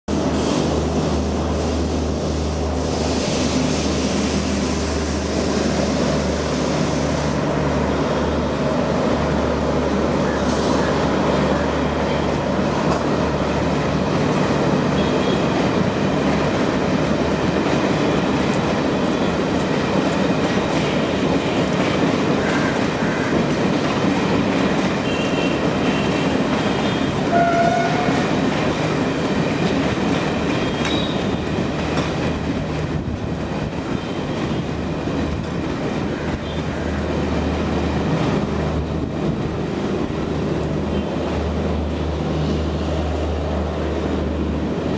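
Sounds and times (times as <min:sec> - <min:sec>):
train wheels on rails: 0:00.1 - 0:44.9.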